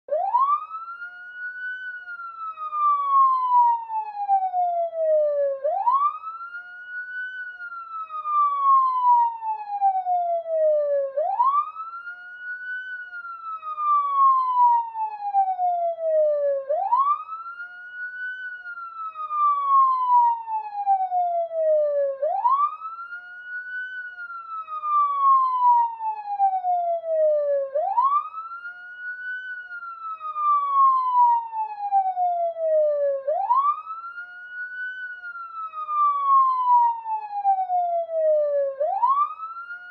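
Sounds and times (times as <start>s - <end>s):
police siren wailing: 0.1s - 39.9s.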